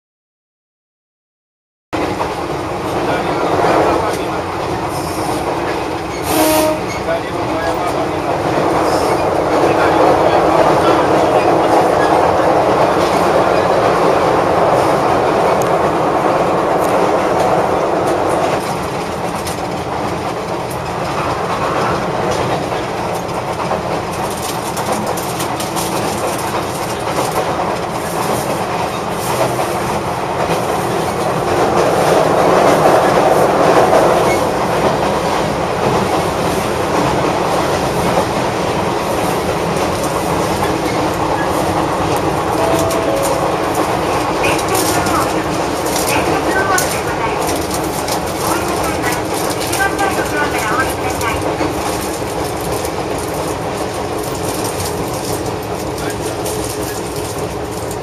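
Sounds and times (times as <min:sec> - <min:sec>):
clickety-clack of rails: 0:02.0 - 0:58.0
train wheels rumbling on rail: 0:02.0 - 0:58.0.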